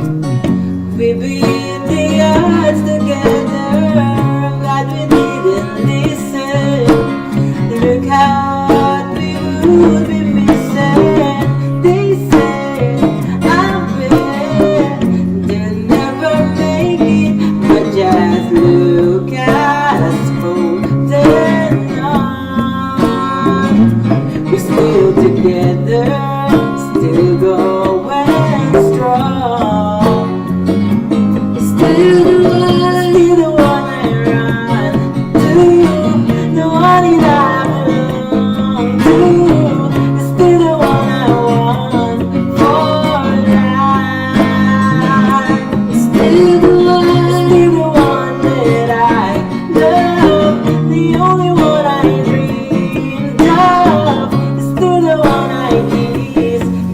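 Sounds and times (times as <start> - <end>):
guitar accompaniment: 0.0 - 56.9
person singing: 0.0 - 56.9.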